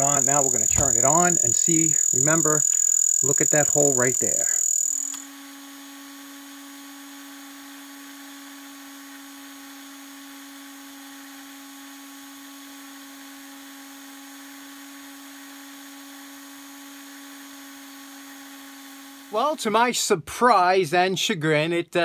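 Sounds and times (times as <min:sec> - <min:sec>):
electric drill motor humming: 0:00.0 - 0:19.4.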